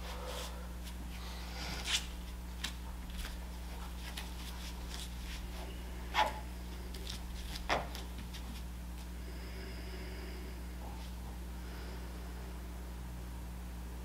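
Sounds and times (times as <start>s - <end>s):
room tone hum: 0.0s - 14.0s.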